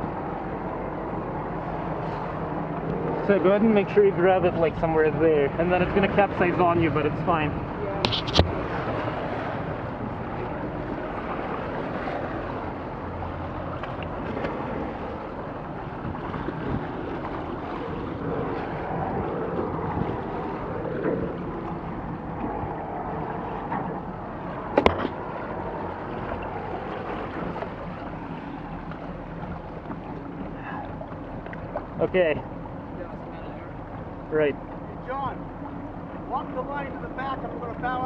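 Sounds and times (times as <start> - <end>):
water lapping against hull: 0.0 - 38.0
wind buffeting microphone: 0.0 - 38.0.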